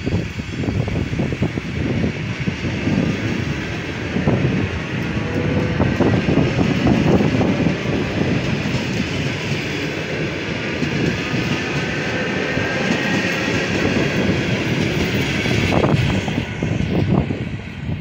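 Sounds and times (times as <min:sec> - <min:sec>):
train wheels rumbling on rails: 0:00.0 - 0:18.0
wheels clacking over rail joints: 0:02.2 - 0:17.0.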